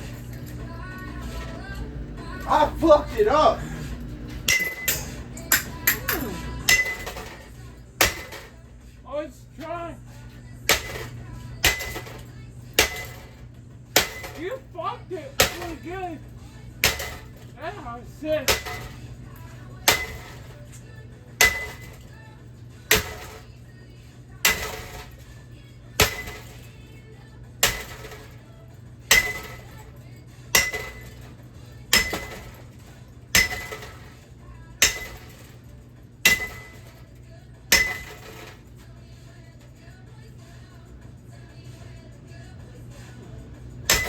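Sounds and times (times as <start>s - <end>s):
metal fan parts clanking: 0.0s - 44.0s.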